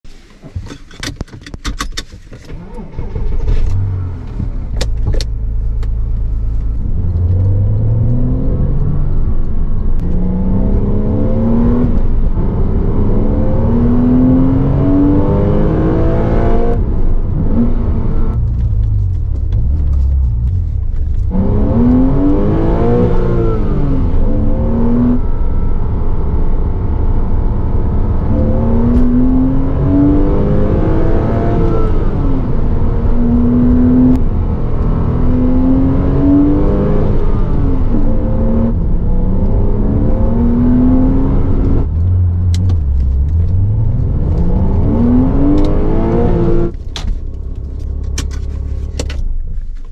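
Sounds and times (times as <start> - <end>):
car engine revving through gears: 2.5 - 49.0.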